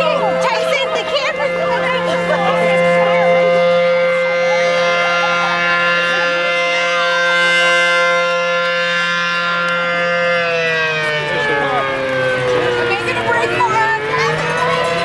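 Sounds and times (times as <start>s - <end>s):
crowd chatter: 0.0s - 15.0s
siren steady tone: 0.0s - 15.0s.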